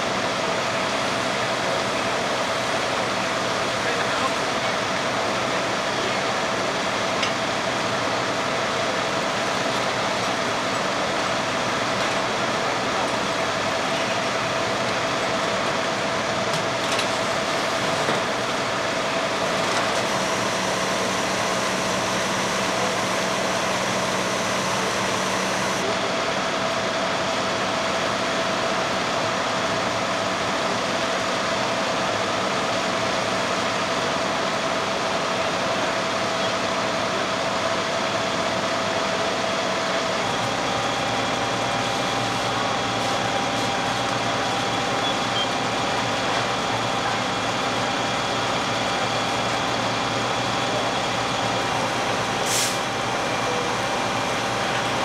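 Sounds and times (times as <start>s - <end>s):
fire engines and pumps humming: 0.0s - 55.0s.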